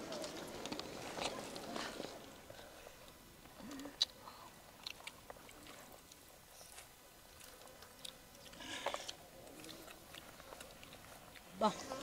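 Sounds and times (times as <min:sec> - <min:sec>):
people eating from clay pots: 0:00.0 - 0:12.0.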